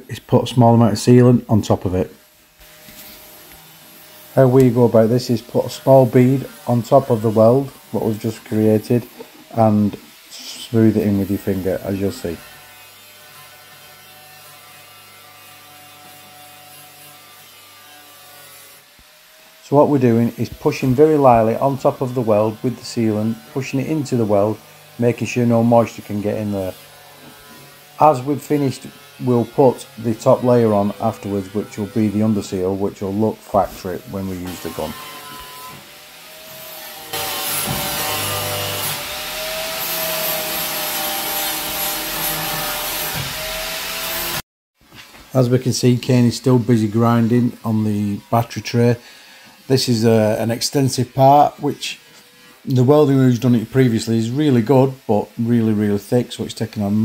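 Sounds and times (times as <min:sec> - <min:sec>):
angle grinder grinding metal: 0:00.6 - 0:44.4, 0:46.1 - 0:57.0.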